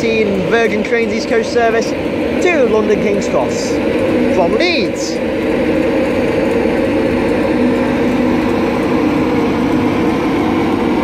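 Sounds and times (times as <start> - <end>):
electric locomotive drone: 0.0 - 11.0.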